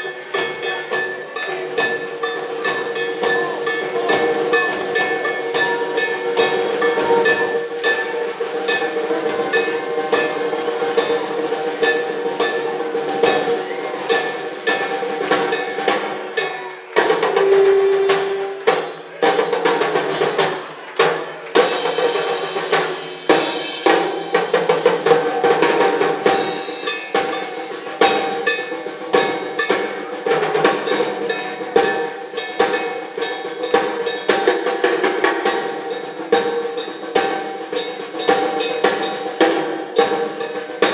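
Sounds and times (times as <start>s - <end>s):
cymbals ringing: 0.0s - 20.9s, 21.5s - 40.9s
drum kit solo: 0.0s - 40.9s.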